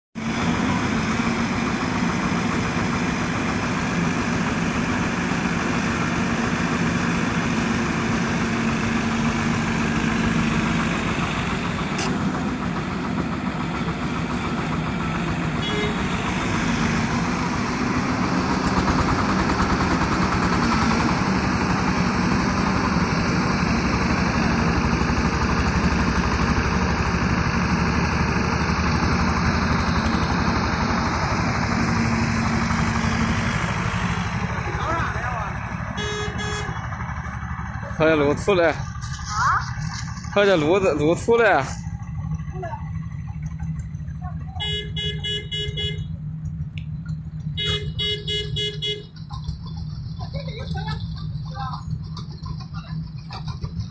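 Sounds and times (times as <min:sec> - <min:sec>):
excavator diesel engine running: 0:00.2 - 0:53.9.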